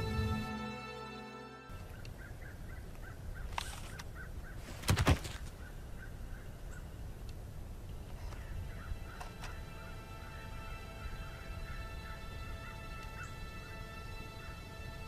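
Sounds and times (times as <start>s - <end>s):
steady outdoor hiss: 0.0s - 15.0s
bird chirping: 1.7s - 4.8s, 5.4s - 15.0s.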